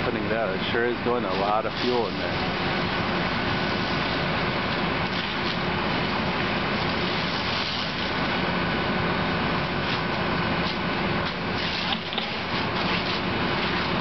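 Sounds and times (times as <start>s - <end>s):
fire being extinguished rushing: 0.0s - 14.0s
fire crackles: 0.0s - 14.0s.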